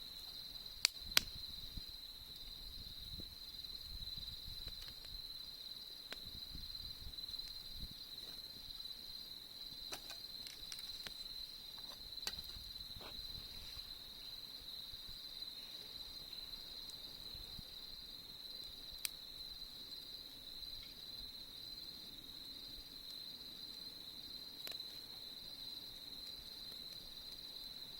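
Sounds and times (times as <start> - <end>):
campfire crackling: 0.0 - 27.9
crickets chirping: 0.0 - 27.9.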